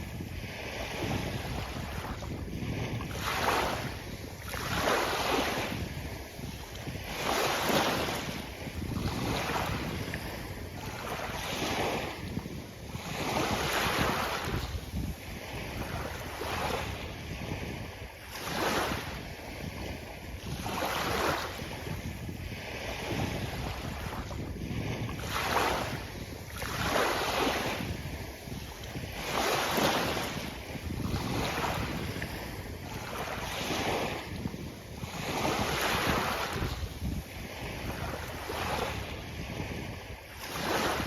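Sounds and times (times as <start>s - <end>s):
sea waves breaking on a beach: 0.0s - 41.0s
wind rumble on microphone: 0.0s - 41.0s.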